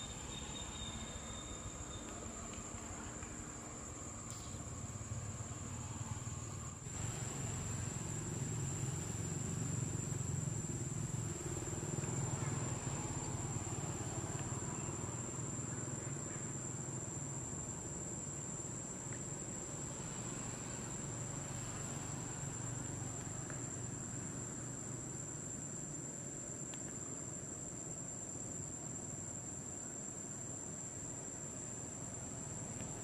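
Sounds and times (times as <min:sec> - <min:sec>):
insects droning: 0:00.0 - 0:33.0
low rumble and hiss: 0:00.0 - 0:33.0.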